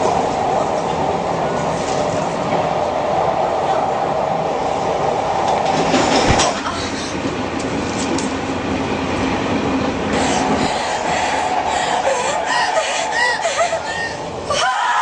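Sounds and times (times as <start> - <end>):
train wheels rumbling on track: 0.0 - 14.7.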